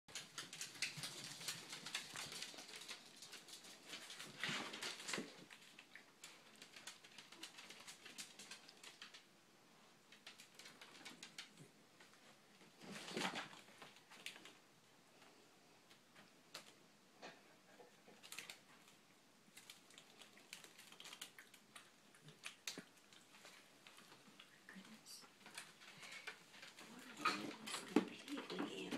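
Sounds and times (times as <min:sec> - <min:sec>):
cat chewing and licking: 0:00.1 - 0:14.6, 0:17.8 - 0:28.9.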